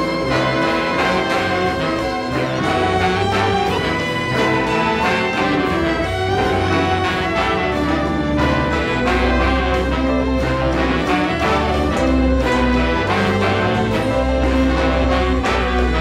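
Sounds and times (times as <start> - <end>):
saxophones and brass chords: 0.0 - 16.0.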